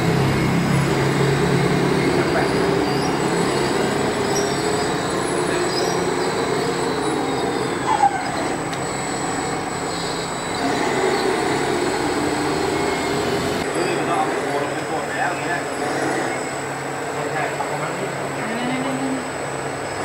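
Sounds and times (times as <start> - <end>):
electric motors grinding whine: 0.0 - 20.0.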